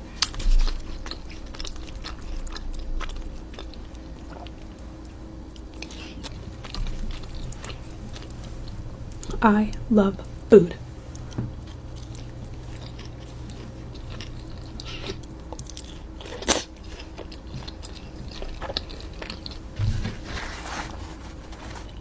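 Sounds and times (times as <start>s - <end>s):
chewing and biting food: 0.0s - 9.4s, 11.1s - 20.3s.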